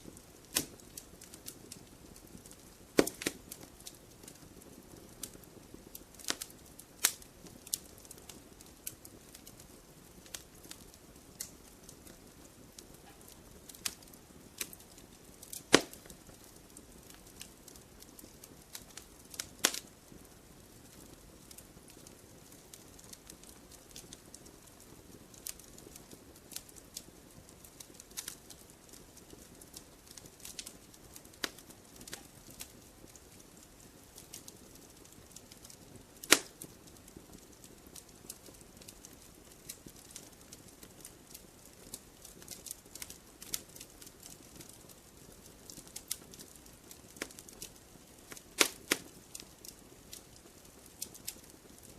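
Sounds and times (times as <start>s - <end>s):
loud fire pops: 0.0s - 24.3s, 25.1s - 51.9s
campfire crackling: 0.0s - 51.9s
low fire hiss: 0.0s - 51.9s.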